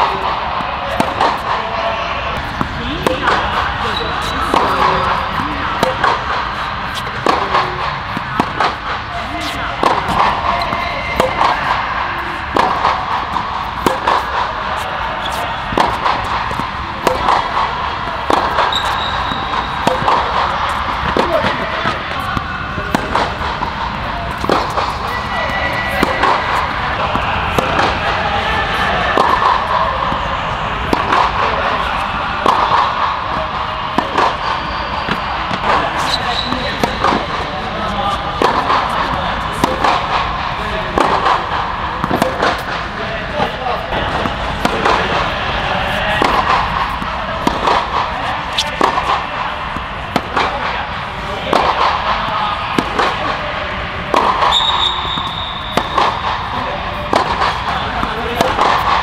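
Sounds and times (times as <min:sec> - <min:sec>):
steady background din: 0:00.0 - 0:59.0
tennis ball hitting racket: 0:00.0 - 0:59.0
ball bouncing on hard court: 0:00.1 - 0:53.5, 0:54.1 - 0:59.0.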